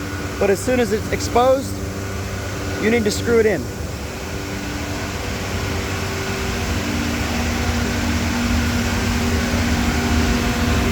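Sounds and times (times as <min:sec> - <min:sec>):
vacuum pump humming: 0:00.0 - 0:10.9.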